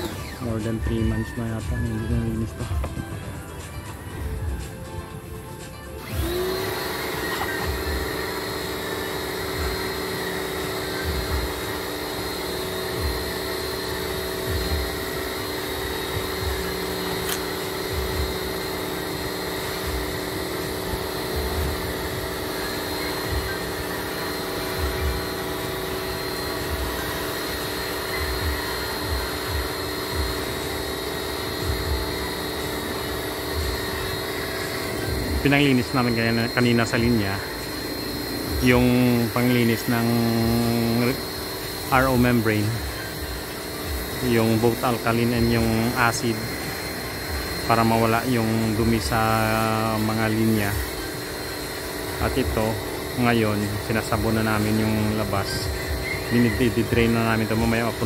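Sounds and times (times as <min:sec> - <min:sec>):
electric pump motor running: 0:00.0 - 0:58.0.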